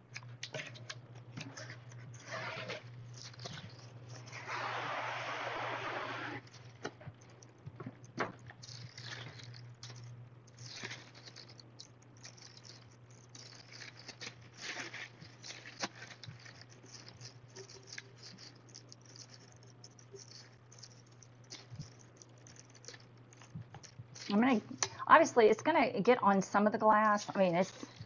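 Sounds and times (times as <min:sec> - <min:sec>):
steady low hum: 0:00.0 - 0:28.0
plastic bag crinkling: 0:00.4 - 0:04.5, 0:06.4 - 0:25.0, 0:26.7 - 0:28.0.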